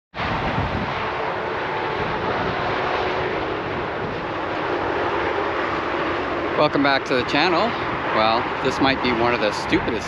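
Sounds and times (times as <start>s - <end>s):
loud highway traffic drone: 0.1s - 10.0s
wind buffeting microphone: 0.1s - 10.0s.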